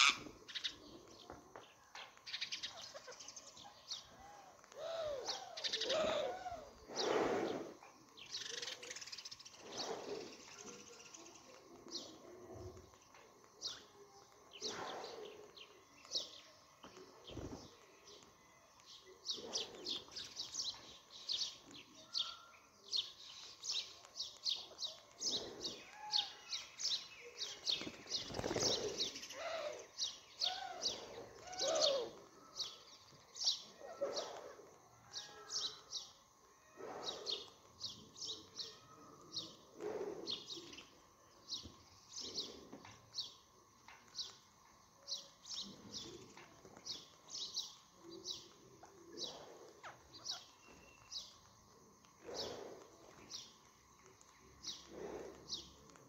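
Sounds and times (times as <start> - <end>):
birds chirping: 0.0 - 56.0
low curving bird calls: 0.0 - 56.0.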